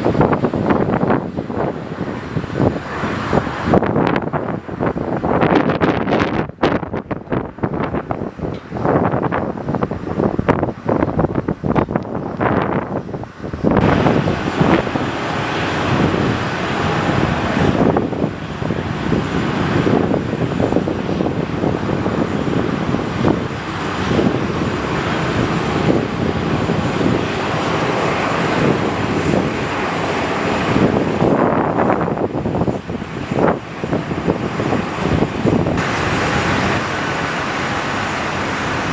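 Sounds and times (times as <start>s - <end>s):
airliner engines running: 0.0s - 38.9s.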